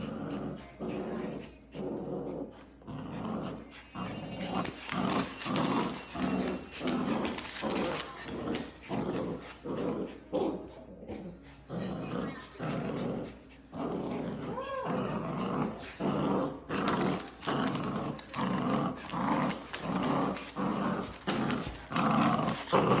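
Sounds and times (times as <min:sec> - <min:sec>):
puppies growling: 0:00.0 - 0:23.0.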